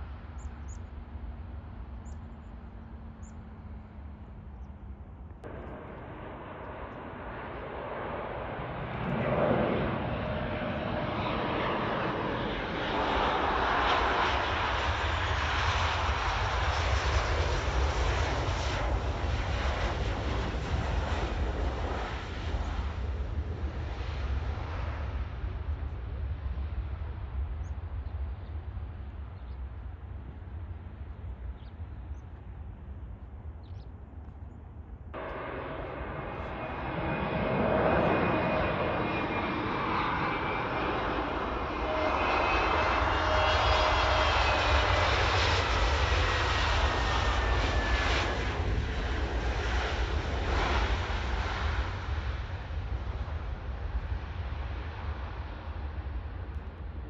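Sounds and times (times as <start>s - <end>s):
jet engines passing close: 0.0s - 57.0s.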